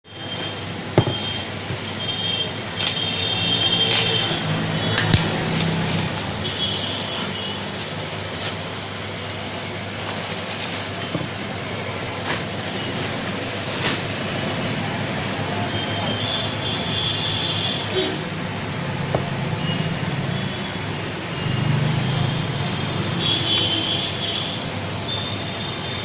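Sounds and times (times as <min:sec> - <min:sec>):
road traffic passing: 0:00.1 - 0:26.0.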